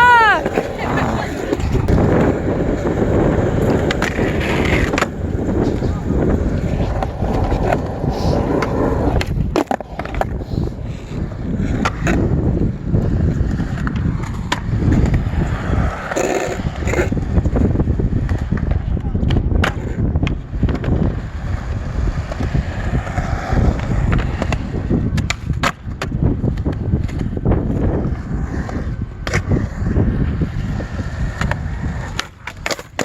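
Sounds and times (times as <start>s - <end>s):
skateboard wheels rolling on concrete: 0.0s - 33.0s
skateboard popping and landing: 0.1s - 33.0s.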